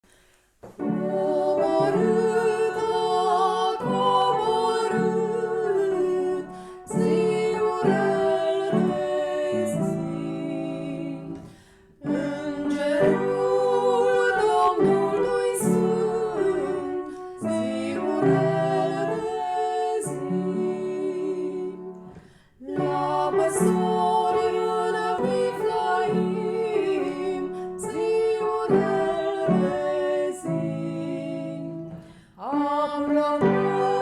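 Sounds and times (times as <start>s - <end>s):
carol melody over held accompaniment: 0.8s - 34.0s.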